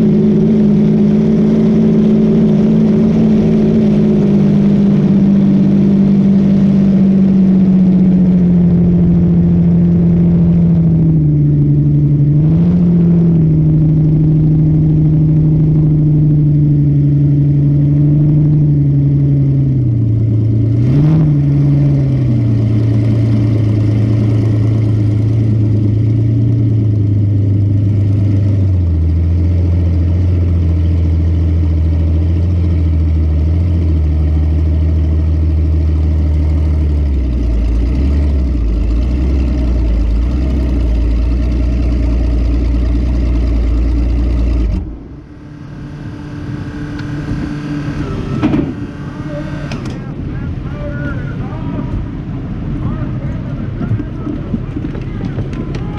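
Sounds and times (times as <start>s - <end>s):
boat engine running: 0.0s - 55.9s.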